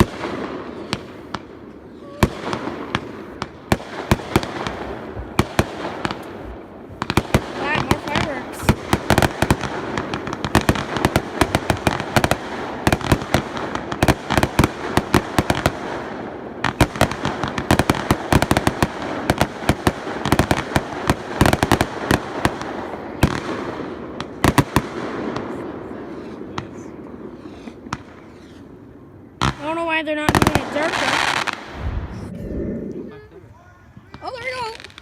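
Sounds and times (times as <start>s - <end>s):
fireworks cracks and bangs: 0.0s - 32.3s, 33.8s - 35.0s
fireworks crackle: 0.0s - 35.0s.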